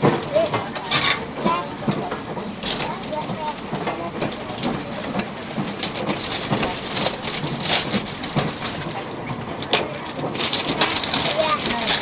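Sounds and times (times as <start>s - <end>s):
train running at speed: 0.0s - 12.0s.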